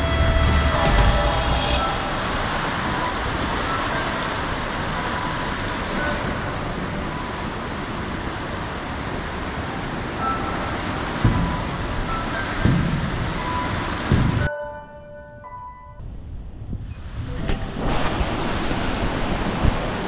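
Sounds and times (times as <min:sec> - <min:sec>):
fast turbulent river rushing: 0:00.0 - 0:14.5, 0:17.0 - 0:20.0.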